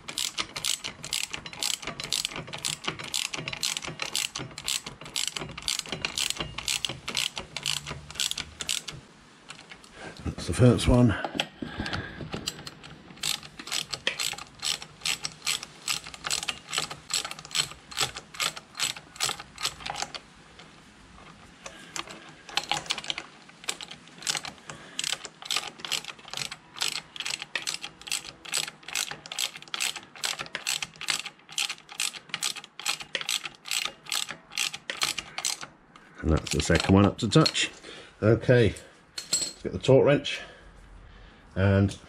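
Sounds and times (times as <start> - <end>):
socket ratchet clicking: 0.0 - 9.9, 12.4 - 20.2, 21.7 - 37.6.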